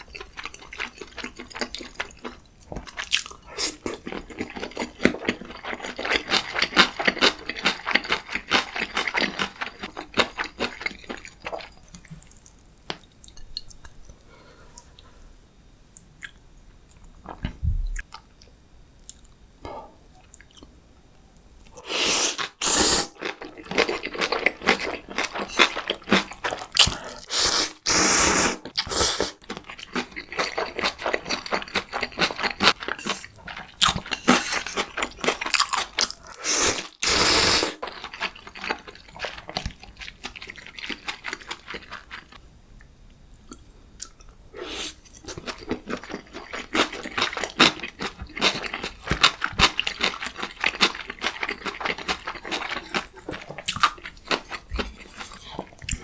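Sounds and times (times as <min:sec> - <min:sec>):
chewing and crunching food: 0:00.0 - 0:15.1, 0:22.4 - 0:27.4, 0:28.6 - 0:42.4, 0:45.0 - 0:56.0.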